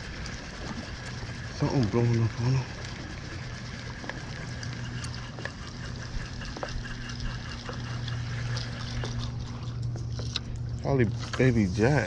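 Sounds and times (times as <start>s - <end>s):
small water splashes and ticks: 0.0s - 12.0s
steady low hum: 0.0s - 12.0s.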